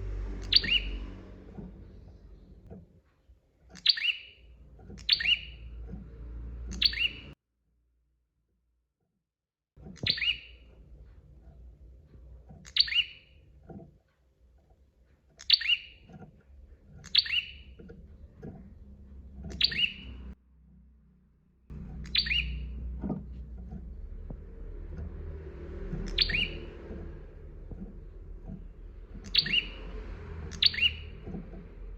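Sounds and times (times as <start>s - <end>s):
songbird chirping: 0.0s - 2.8s, 3.7s - 7.4s, 9.8s - 13.9s, 15.3s - 20.4s, 21.7s - 31.9s.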